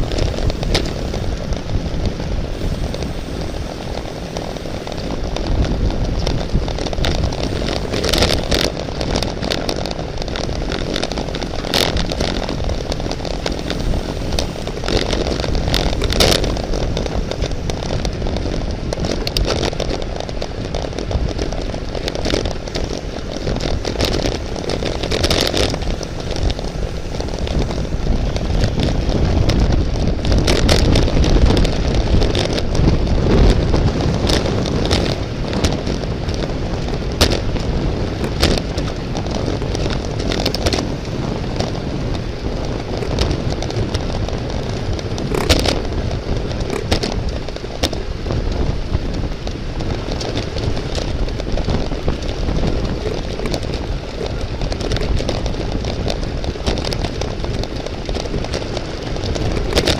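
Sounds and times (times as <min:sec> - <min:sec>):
bicycle road noise: 0:00.0 - 0:59.9
wind rush: 0:00.0 - 0:59.9.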